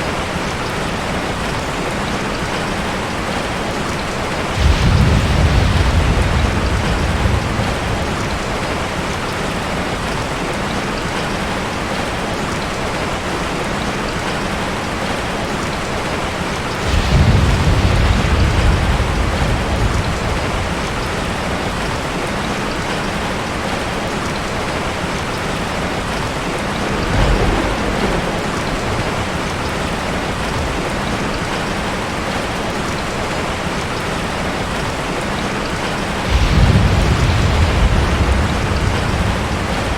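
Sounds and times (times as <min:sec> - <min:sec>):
thunder rumbling: 0:00.0 - 0:11.2, 0:14.2 - 0:39.9
steady rain falling: 0:00.0 - 0:39.9.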